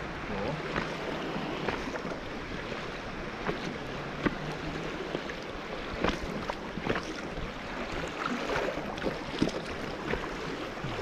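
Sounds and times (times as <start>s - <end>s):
creek water rushing: 0.0s - 11.0s
water splashing against boat: 0.0s - 11.0s.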